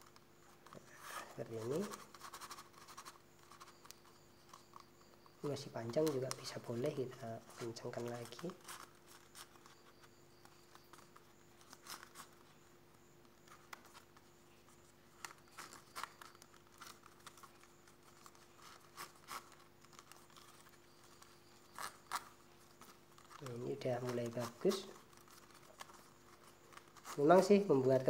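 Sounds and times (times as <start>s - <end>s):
faint steady hum: 0.0s - 28.0s
leaf strips crackling and rustling: 0.0s - 28.0s.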